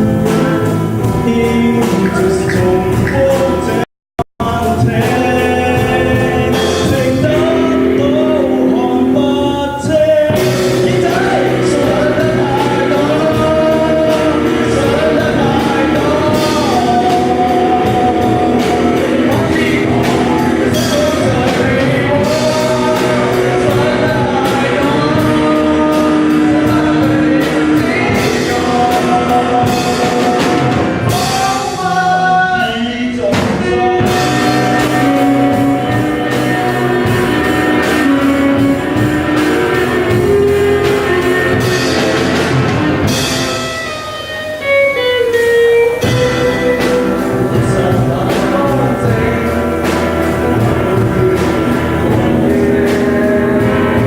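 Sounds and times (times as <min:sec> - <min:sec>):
rock band with vocals: 0:00.0 - 0:54.0.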